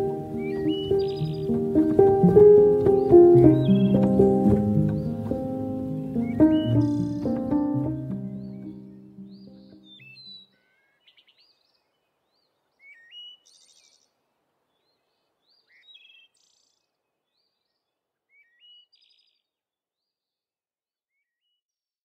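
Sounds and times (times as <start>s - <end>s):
faint birdsong chirps and trills: 0.0s - 20.4s, 21.1s - 21.7s.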